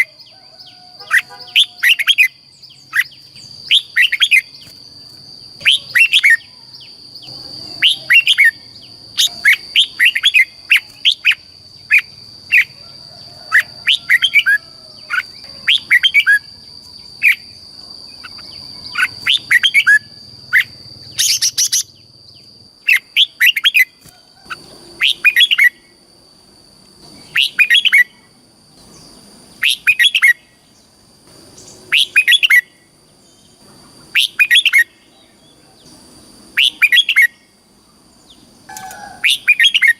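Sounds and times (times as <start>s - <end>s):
bird singing chirped phrases: 0.0s - 12.8s, 13.6s - 24.0s, 27.0s - 39.9s.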